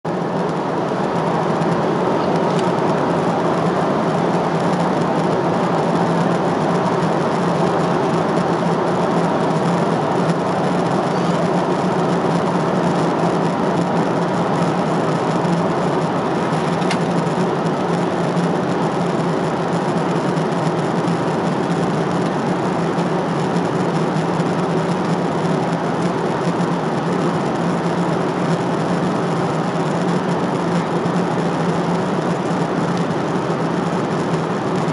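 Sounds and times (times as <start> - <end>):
jet cabin engine and airflow noise: 0.1 - 34.9
steady low hum: 0.1 - 34.9.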